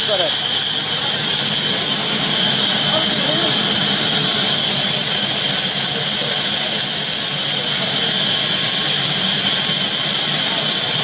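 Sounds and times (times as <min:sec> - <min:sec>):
sawmill saw machinery running: 0:00.0 - 0:11.0.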